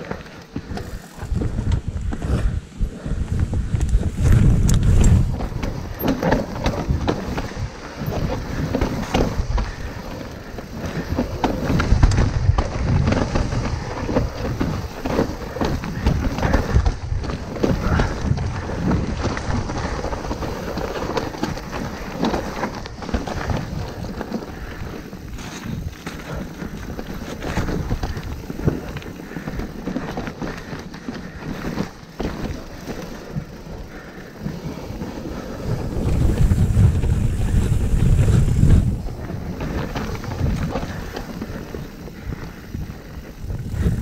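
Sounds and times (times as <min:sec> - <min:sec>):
bike chain and frame rattling: 0:00.0 - 0:44.0
bike tyres rumbling over ground: 0:00.0 - 0:44.0.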